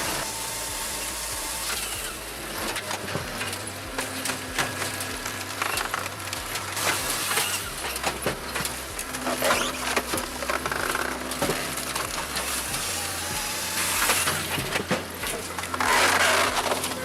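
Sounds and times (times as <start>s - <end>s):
machine hum: 0.0s - 17.0s
wood cracking and splintering: 0.0s - 17.0s.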